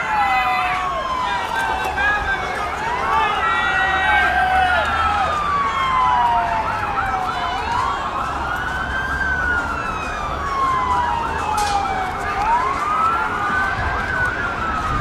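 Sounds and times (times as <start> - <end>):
police siren wailing: 0.0 - 15.0
police siren warbling fast: 0.0 - 15.0.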